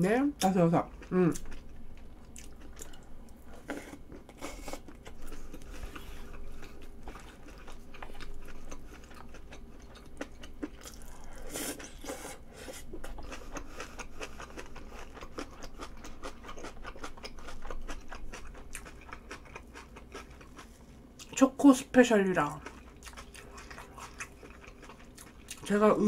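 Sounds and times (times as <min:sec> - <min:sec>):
person chewing food: 0:00.9 - 0:21.4, 0:22.6 - 0:25.8.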